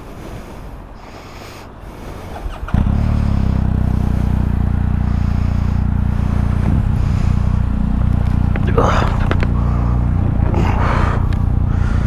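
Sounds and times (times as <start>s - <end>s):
motorcycle engine starting and idling: 2.1s - 12.0s.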